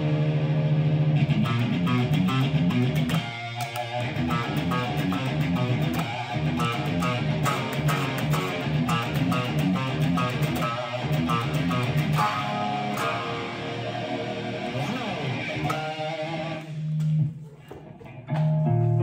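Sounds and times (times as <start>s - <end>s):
electric guitar through amplifier: 0.0s - 19.0s.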